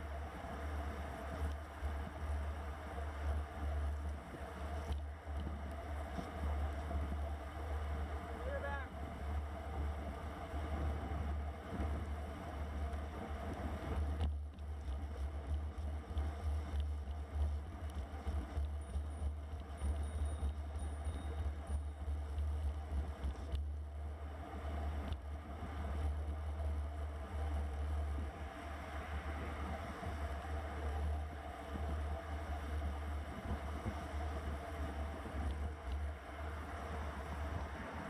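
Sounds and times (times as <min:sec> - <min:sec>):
wind rumble on microphone: 0:00.0 - 0:38.0.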